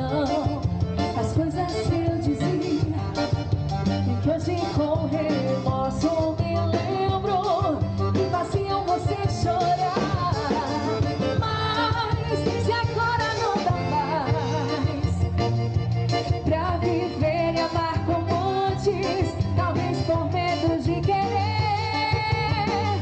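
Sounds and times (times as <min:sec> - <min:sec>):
woman singing into microphone: 0:00.0 - 0:15.4, 0:16.4 - 0:23.0
bass line: 0:00.0 - 0:23.0
electronic keyboard: 0:00.0 - 0:23.0.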